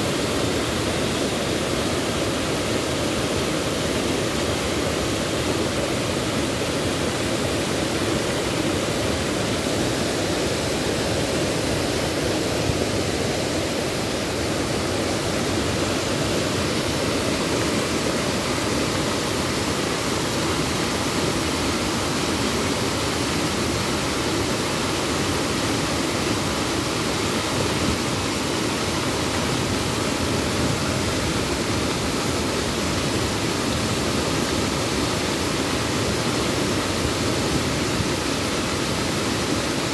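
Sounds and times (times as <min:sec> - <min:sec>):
river rushing over waterfall: 0:00.0 - 0:39.9.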